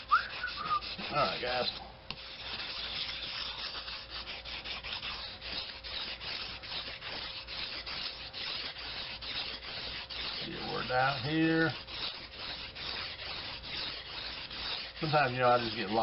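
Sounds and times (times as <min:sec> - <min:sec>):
knife scraping on whetstone: 0:00.0 - 0:16.0.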